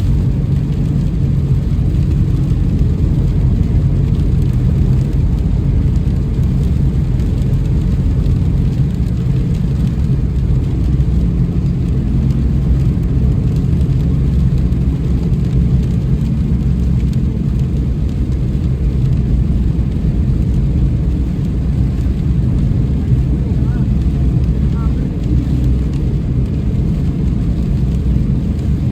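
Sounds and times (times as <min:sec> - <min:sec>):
raindrops ticking: 0:00.0 - 0:28.9
road rumble: 0:00.0 - 0:28.9.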